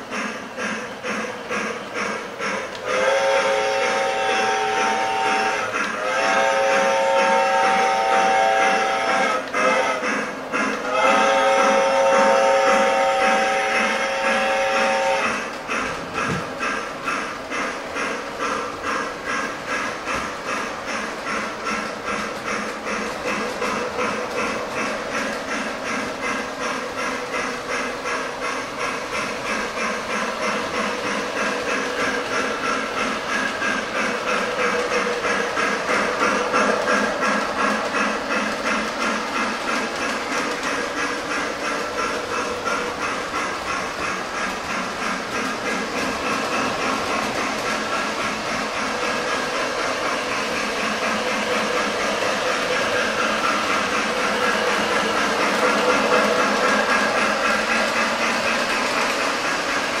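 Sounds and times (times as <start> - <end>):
toy train chuffing: 0.0 - 60.0
toy train wheels rolling: 1.2 - 60.0.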